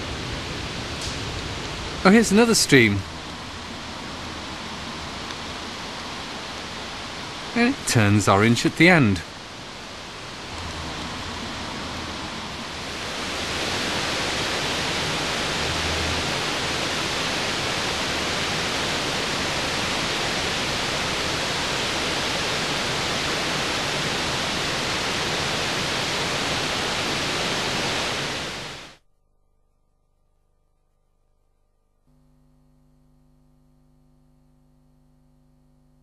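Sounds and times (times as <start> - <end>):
rushing river water: 0.0 - 29.0
stream cascading: 0.0 - 29.0.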